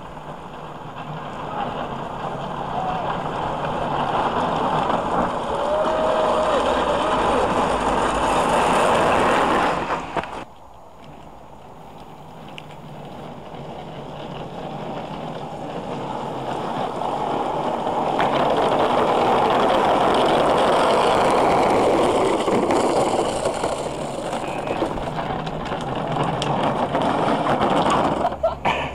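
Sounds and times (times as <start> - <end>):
plastic toy wheels rumbling on tarmac: 0.0 - 28.9.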